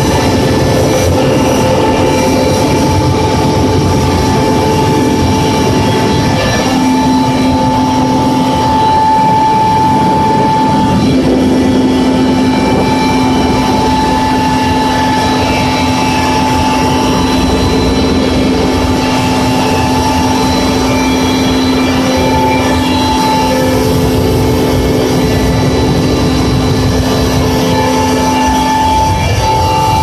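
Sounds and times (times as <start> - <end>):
helicopter engines and rotor din: 0.0 - 30.0
whining tones: 0.0 - 30.0.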